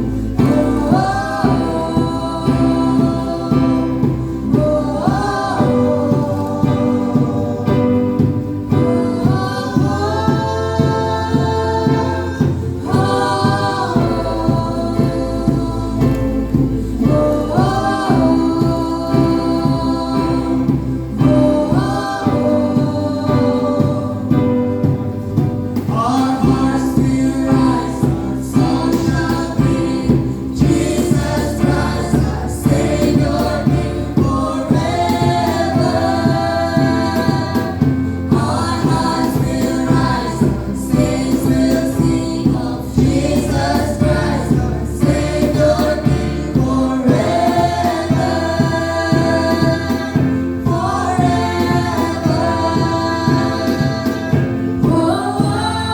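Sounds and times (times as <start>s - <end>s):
low instrumental accompaniment: 0.0s - 55.9s
youth choir singing: 0.0s - 55.9s.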